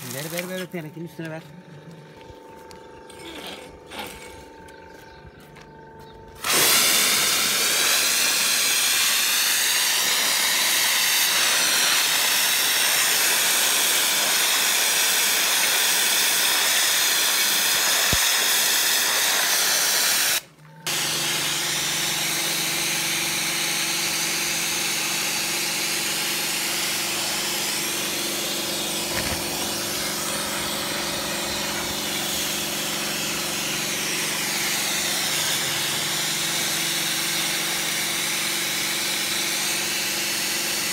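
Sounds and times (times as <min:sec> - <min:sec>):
water spray hissing: 0:00.0 - 0:00.7, 0:06.4 - 0:40.7
pressure washer motor hum: 0:00.0 - 0:40.9
high-pressure jet hissing: 0:06.4 - 0:40.9.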